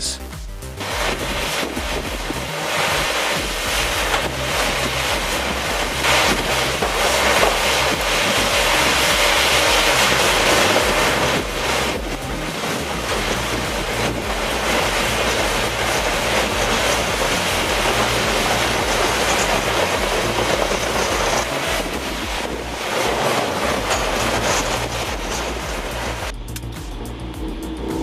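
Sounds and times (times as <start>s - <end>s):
low drone: 0.0s - 28.0s
forestry machine working wood: 0.8s - 28.0s.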